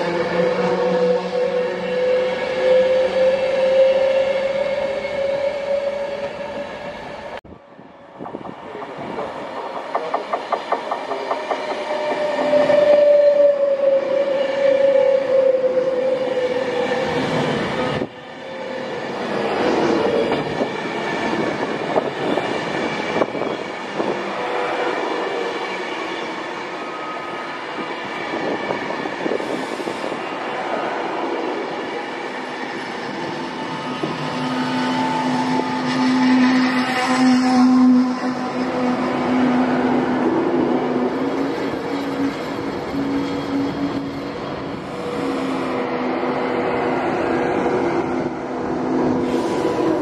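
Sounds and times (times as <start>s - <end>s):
electric train whine: 0.0s - 50.0s.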